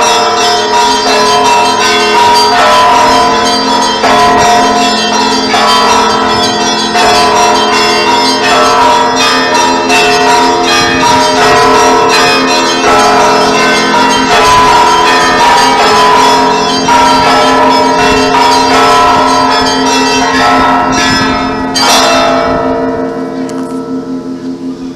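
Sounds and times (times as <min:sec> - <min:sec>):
church bells pealing: 0:00.0 - 0:24.9.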